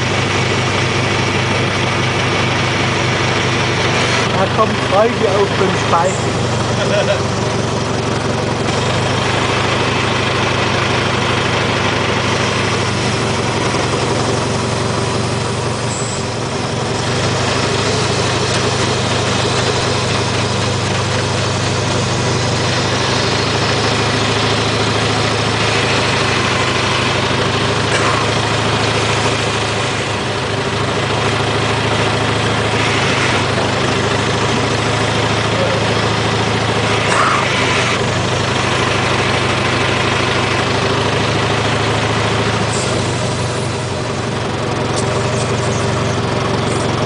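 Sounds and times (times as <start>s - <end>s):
tractor engine running: 0.0s - 47.0s.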